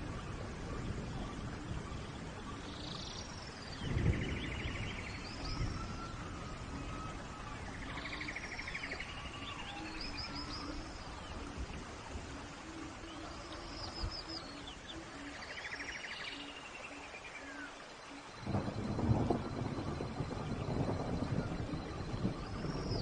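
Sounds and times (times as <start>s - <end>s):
rain hiss: 0.0s - 23.0s
songbirds calling: 0.0s - 23.0s.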